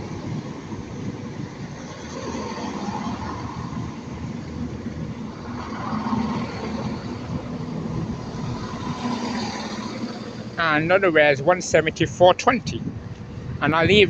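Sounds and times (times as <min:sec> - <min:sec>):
low hum: 0:00.0 - 0:13.9
train running: 0:00.0 - 0:14.0.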